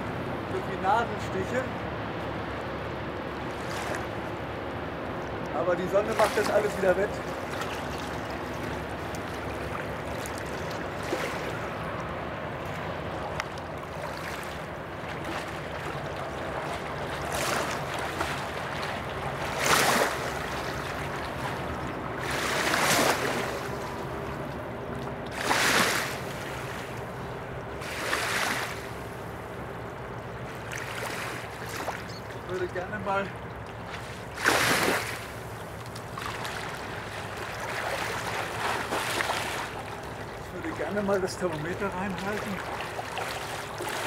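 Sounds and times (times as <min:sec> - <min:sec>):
river water lapping and splashing: 0:00.0 - 0:44.0
rushing water background: 0:00.0 - 0:44.0.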